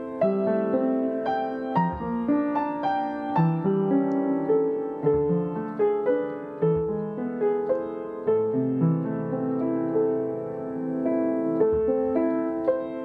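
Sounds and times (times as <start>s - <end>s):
slow gentle piano piece: 0.0s - 13.0s.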